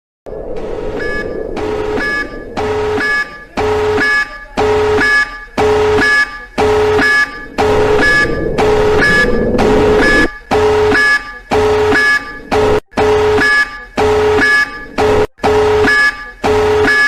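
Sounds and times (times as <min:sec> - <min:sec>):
emergency alert electronic beeps: 0:00.3 - 0:17.0.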